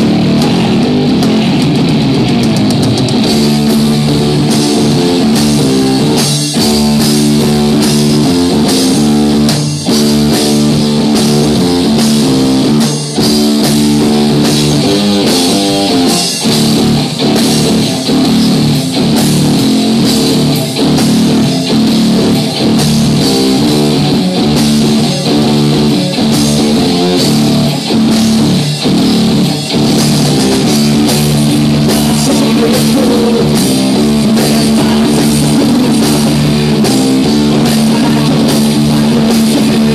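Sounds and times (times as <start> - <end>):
drum kit: 0.0 - 39.9
electric guitar riff: 0.0 - 39.9.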